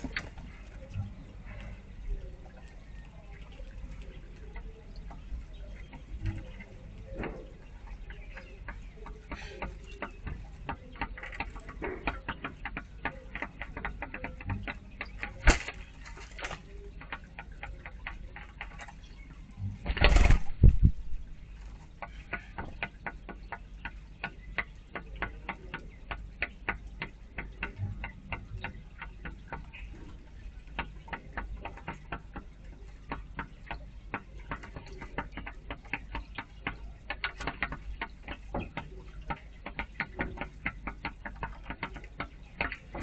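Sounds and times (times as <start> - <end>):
doves pecking plastic tray: 0.0 - 43.0.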